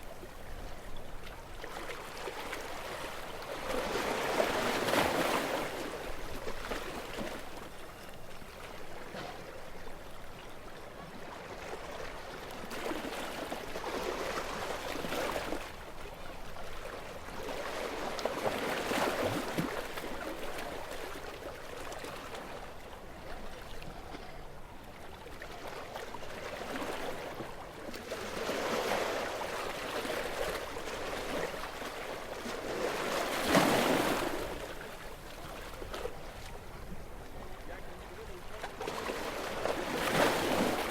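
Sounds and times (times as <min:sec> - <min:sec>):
small waves washing onto shore: 0:00.0 - 0:10.3, 0:11.1 - 0:40.9.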